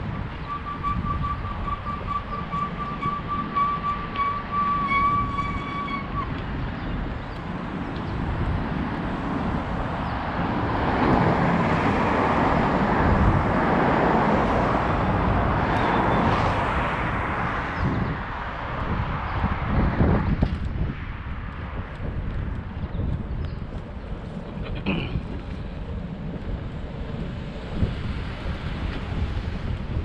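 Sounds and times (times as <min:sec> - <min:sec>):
wind and bicycle road noise: 0:00.0 - 0:30.0.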